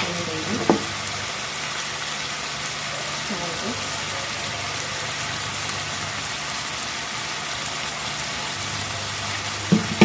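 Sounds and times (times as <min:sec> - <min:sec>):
curry sizzling in a pan: 0:00.0 - 0:10.0.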